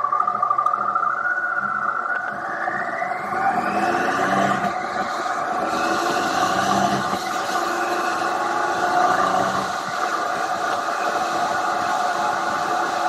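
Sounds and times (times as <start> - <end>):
motorcycle engine accelerating: 2.4 - 13.0.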